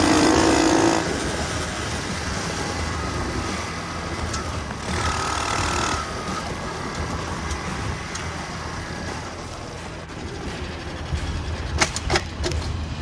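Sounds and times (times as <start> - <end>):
minibike engine running: 0.0 - 13.0
rushing noise: 0.0 - 13.0.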